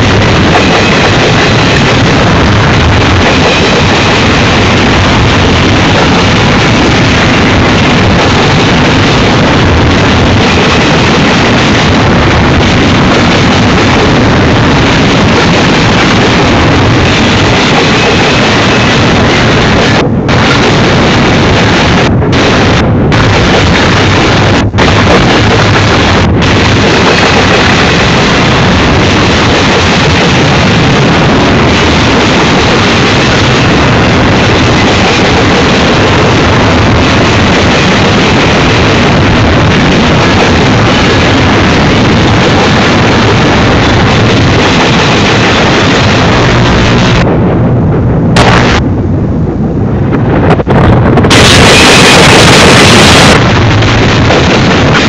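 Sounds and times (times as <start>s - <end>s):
freight train wheels roaring on rail: 0.0s - 55.0s.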